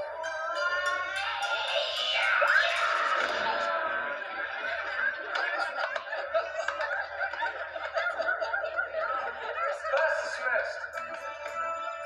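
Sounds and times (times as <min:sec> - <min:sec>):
kids laughing through tv speaker: 0:01.2 - 0:11.0.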